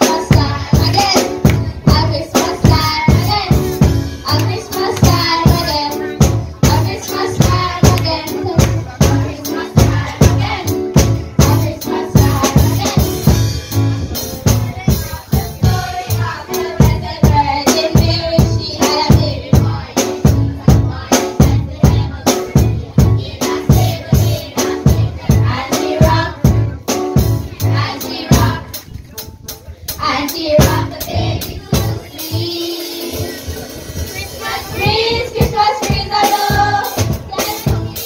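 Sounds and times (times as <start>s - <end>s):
children singing: 0.0s - 3.7s, 4.3s - 10.8s, 11.4s - 13.4s, 14.8s - 26.7s, 27.5s - 28.8s, 30.0s - 38.0s
upbeat song with fast beat: 0.0s - 38.0s.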